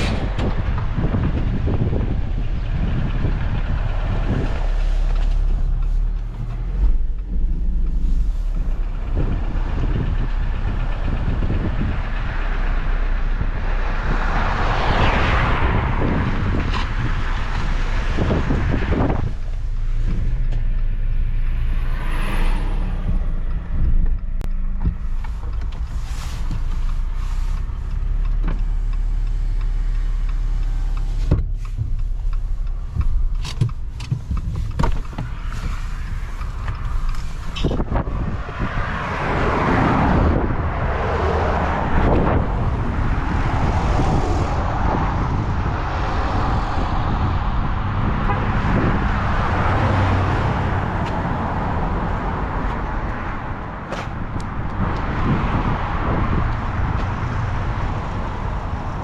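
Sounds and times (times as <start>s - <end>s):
truck engine low rumble: 0.0s - 59.0s.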